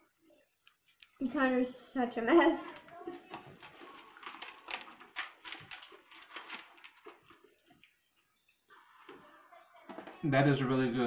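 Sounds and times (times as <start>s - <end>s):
people chewing with crunches: 0.0s - 1.6s, 2.5s - 10.4s.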